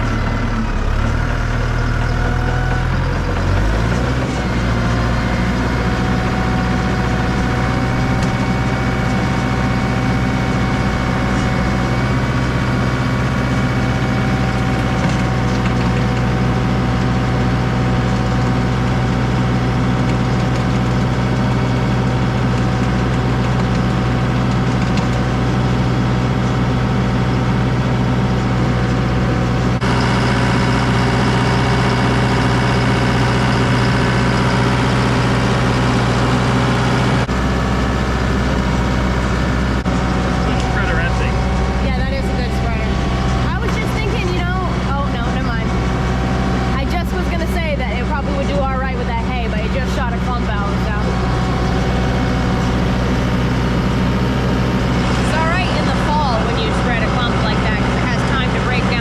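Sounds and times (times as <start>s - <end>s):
farm machine engine running: 0.0s - 59.0s.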